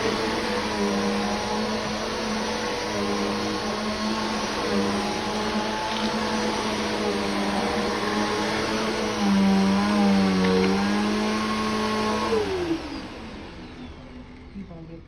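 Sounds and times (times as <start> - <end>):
vacuum cleaner motor whining: 0.0 - 15.0.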